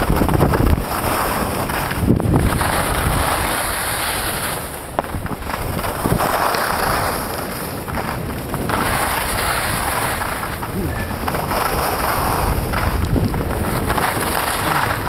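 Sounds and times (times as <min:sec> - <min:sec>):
skis hissing over snow: 0:00.0 - 0:15.0
wind buffeting microphone: 0:00.0 - 0:15.0.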